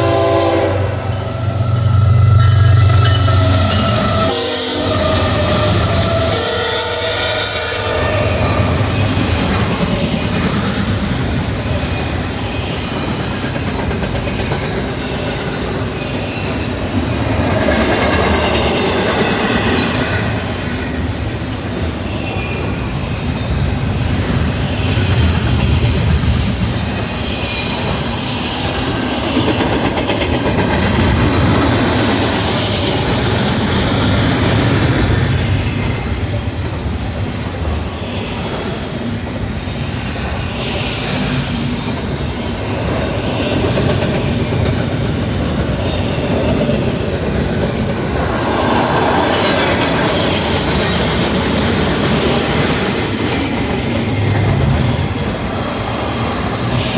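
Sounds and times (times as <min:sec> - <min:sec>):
train wheels clattering over rails: 0:00.0 - 0:56.9.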